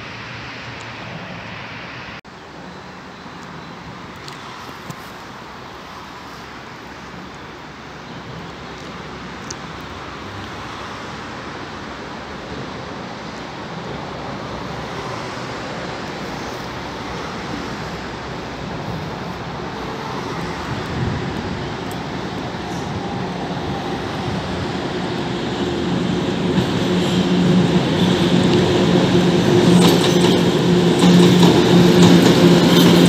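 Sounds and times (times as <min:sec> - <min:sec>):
freight train approaching: 0:00.0 - 0:33.0.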